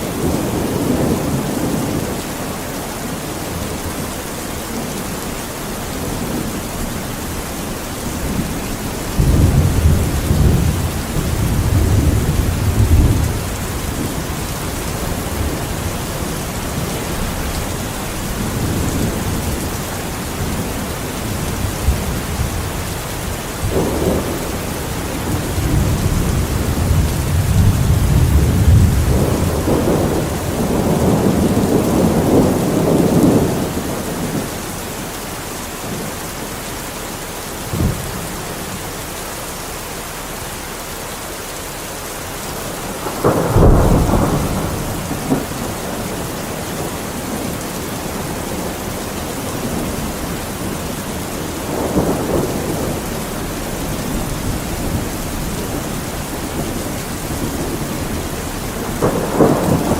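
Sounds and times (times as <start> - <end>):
rolling thunder: 0.0 - 35.1, 37.6 - 38.8, 42.4 - 59.9
steady rain: 0.0 - 59.9.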